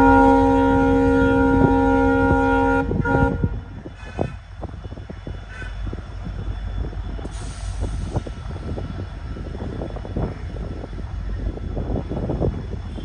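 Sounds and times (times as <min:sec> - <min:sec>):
train rumble and wheel clatter: 0:00.0 - 0:13.0.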